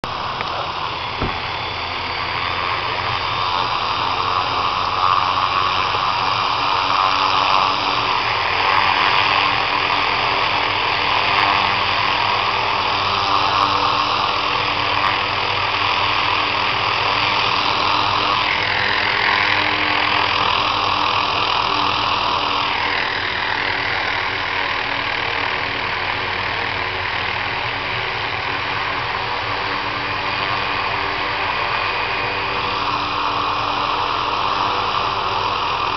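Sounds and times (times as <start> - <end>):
engine whine: 0.0 - 35.9
helicopter engine and rotor: 0.0 - 35.9.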